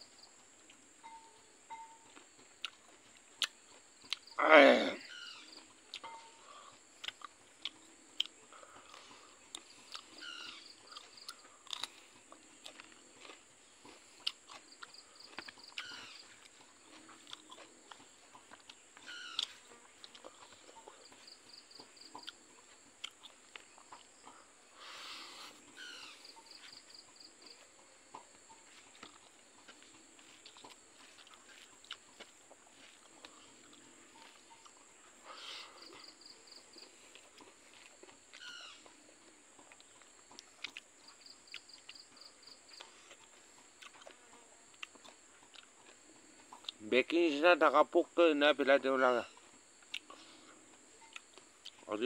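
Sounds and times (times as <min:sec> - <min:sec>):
wet chewing and smacking: 0:02.0 - 0:04.4, 0:05.4 - 0:46.9, 0:49.3 - 0:51.9.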